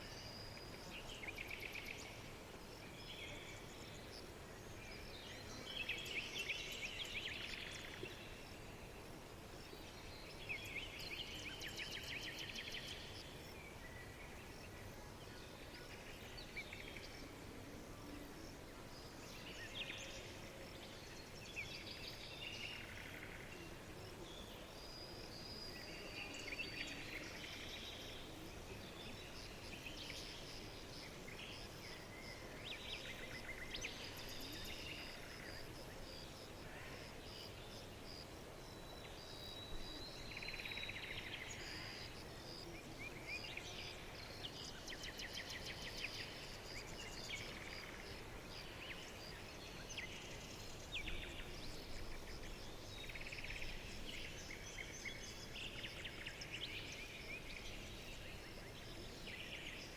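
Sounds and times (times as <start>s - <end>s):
low background hiss: 0.0s - 59.9s
songbirds chirping and trilling: 0.0s - 59.9s.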